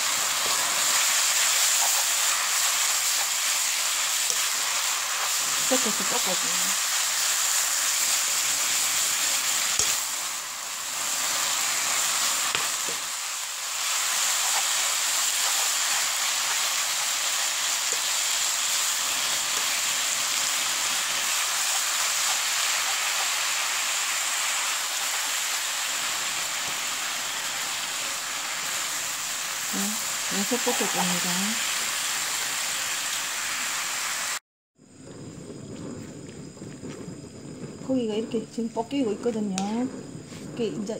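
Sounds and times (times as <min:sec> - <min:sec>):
food sizzling in a wok: 0:00.0 - 0:40.9.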